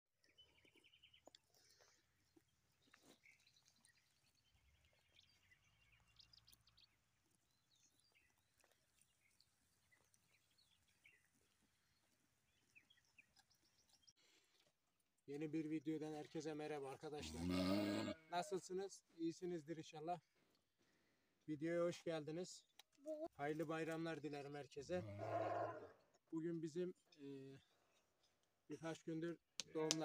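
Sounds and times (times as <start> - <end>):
faint birdsong: 0.2 - 14.6, 18.4 - 29.4.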